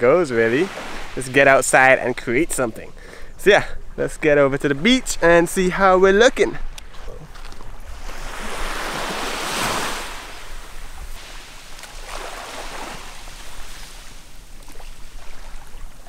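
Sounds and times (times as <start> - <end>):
small waves washing onto beach: 0.0 - 16.0.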